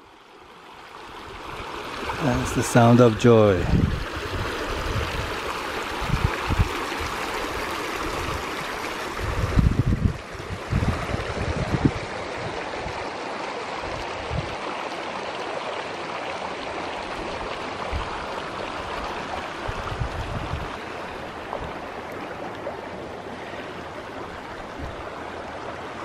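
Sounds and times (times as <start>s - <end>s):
creek running over stones: 0.0s - 26.0s.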